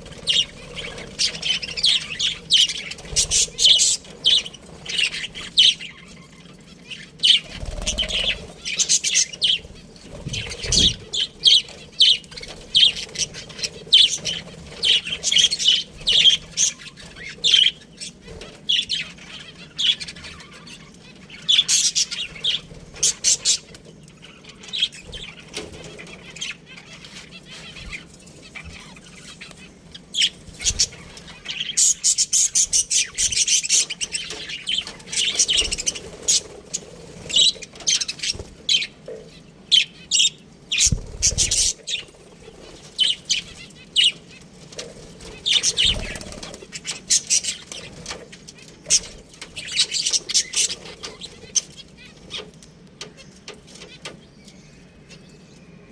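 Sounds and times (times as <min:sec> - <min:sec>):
budgies chirping: 0:00.0 - 0:55.9.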